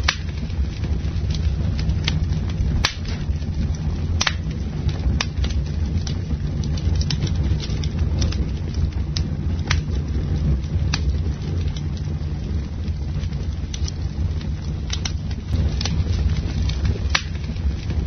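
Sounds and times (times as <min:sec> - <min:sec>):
campfire crackling: 0:00.0 - 0:18.0
low rumble: 0:00.0 - 0:18.0
sharp fire pops: 0:00.0 - 0:18.0.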